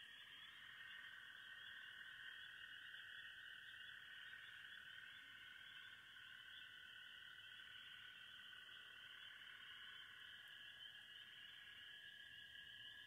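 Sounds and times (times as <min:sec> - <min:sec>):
night chorus of calling frogs or insects: 0:00.0 - 0:13.0.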